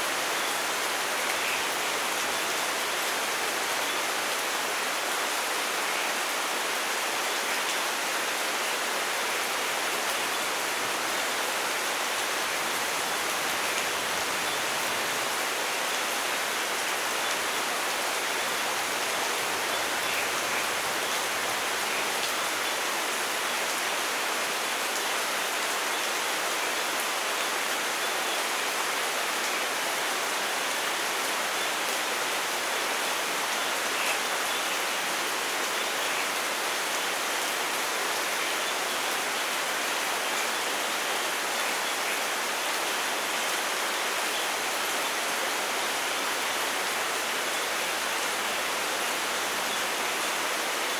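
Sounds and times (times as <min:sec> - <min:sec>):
steady rainfall: 0:00.0 - 0:50.9.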